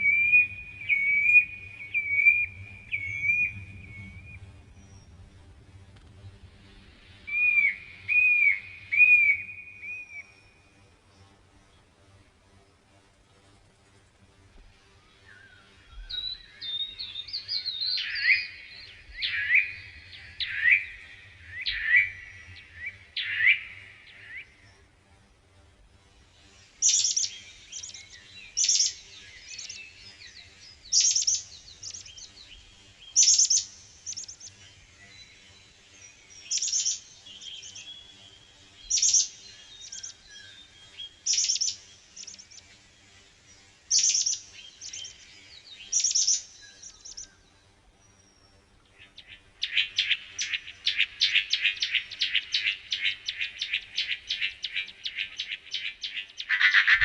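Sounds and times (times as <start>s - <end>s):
birds chirping: 0.0s - 5.6s, 6.8s - 10.6s, 15.1s - 24.9s, 26.6s - 57.0s.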